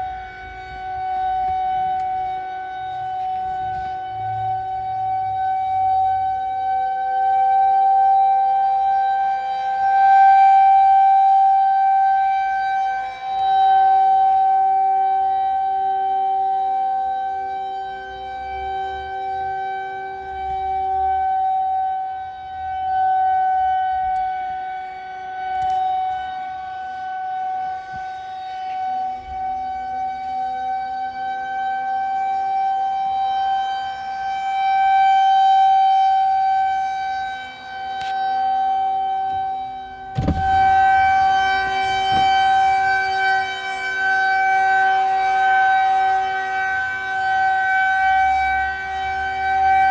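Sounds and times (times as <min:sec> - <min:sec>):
tornado siren: 0:00.0 - 0:49.9.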